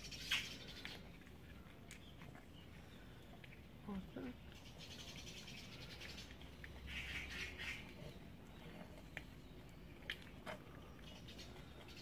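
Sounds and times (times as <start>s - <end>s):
cats crunching dry kibble: 0.0s - 12.0s.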